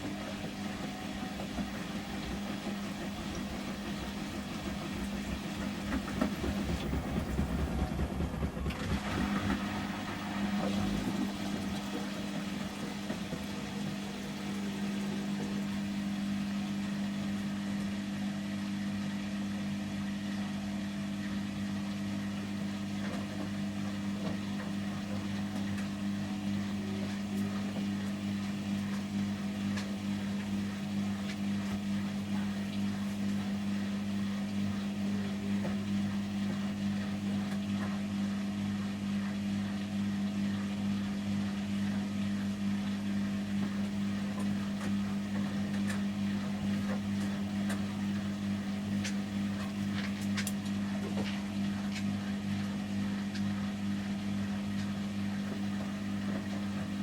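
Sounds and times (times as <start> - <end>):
washing machine spinning hum: 0.0 - 57.0.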